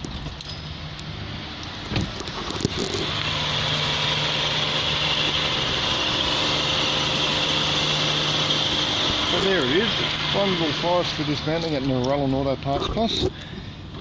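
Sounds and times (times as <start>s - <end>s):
car engine idling: 1.4s - 13.9s.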